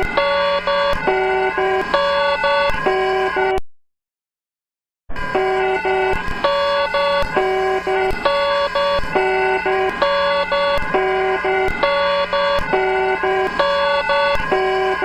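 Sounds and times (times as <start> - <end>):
electronic alarm tones: 0.0 - 3.6, 5.2 - 15.0.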